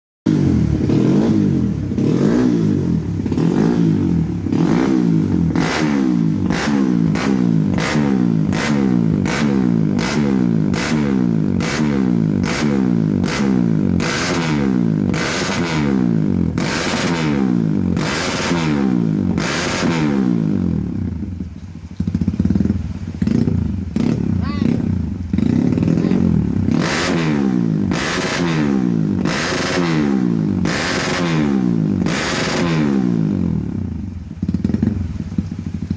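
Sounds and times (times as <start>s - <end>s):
motorcycle engine revving: 0.3s - 35.9s
exhaust crackle: 0.4s - 35.9s.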